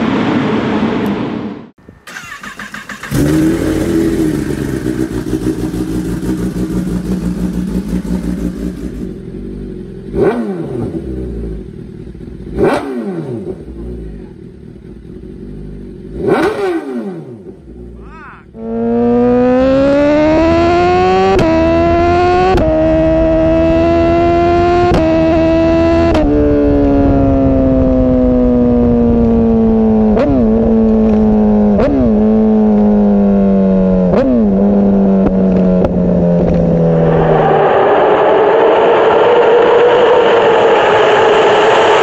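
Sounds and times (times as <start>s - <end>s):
engine and wind rushing in tunnel: 0.0s - 18.0s, 18.6s - 42.0s
motorcycle engine shifting gears: 2.0s - 37.6s.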